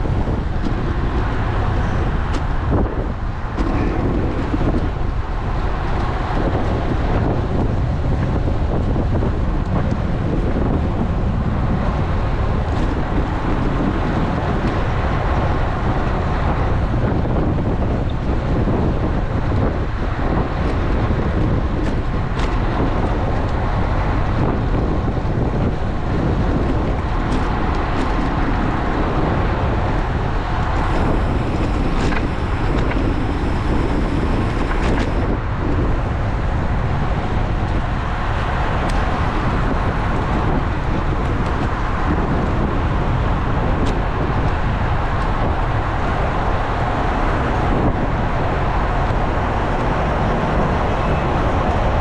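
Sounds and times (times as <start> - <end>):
road and traffic noise: 0.0 - 52.0
wind buffeting microphone: 0.0 - 52.0.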